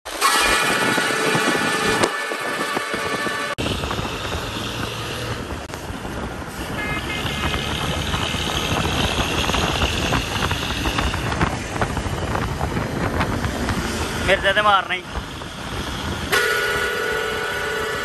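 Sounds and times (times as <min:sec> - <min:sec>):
diesel bus engine: 0:00.1 - 0:18.0
road and wind noise: 0:00.1 - 0:18.0.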